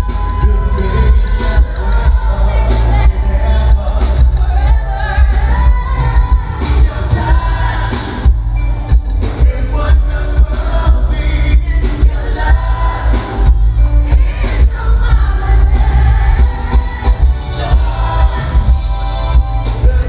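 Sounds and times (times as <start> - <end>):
man singing into microphone: 0.0 - 8.2, 9.2 - 18.7, 19.7 - 20.0
live band with booming bass: 0.0 - 20.0.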